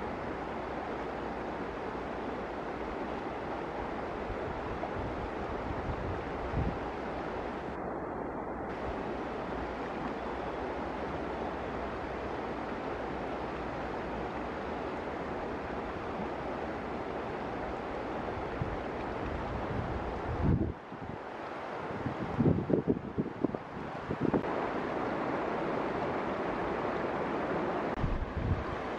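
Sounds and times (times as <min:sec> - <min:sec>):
river rushing over stones: 0:00.0 - 0:28.9
wind rumble on microphone: 0:02.4 - 0:28.9.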